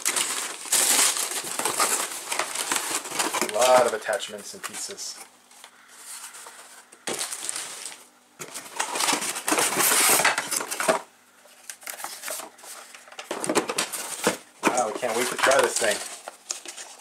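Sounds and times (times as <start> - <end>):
cardboard scraping and rustling: 0.0 - 11.0, 11.8 - 17.0.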